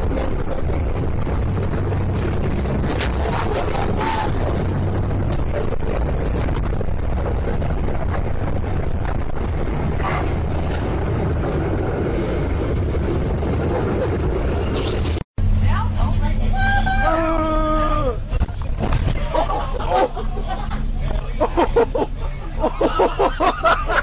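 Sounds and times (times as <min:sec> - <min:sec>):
bus engine and road rumble: 0:00.0 - 0:24.0
constant low hum: 0:00.0 - 0:24.0.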